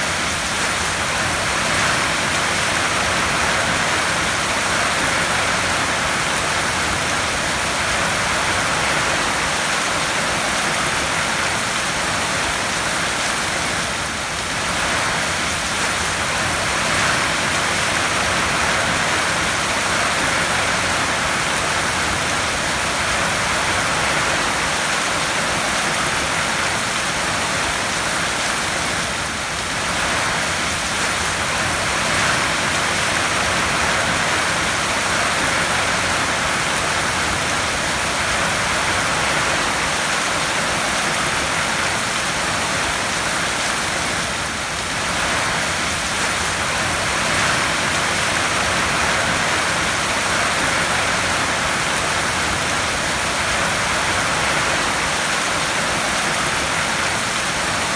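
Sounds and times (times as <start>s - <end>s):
heavy rain on a tin roof: 0.0s - 57.9s.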